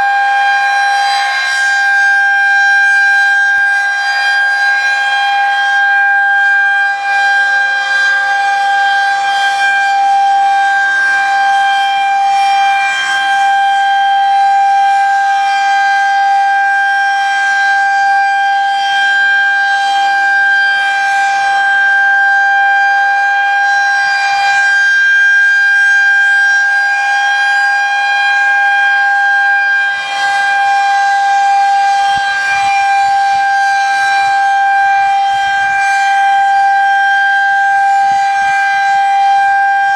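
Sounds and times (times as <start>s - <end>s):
tornado warning siren: 0.0s - 39.9s.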